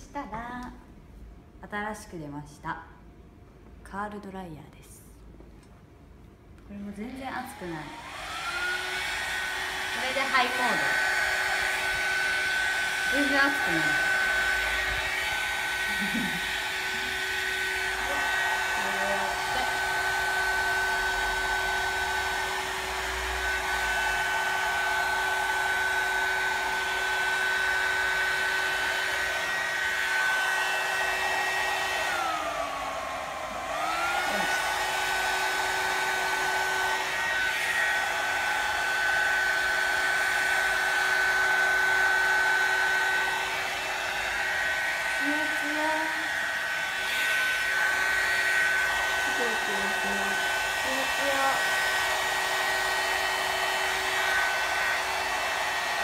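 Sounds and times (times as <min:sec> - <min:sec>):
hot-air styling brush whining: 0:06.9 - 0:56.0.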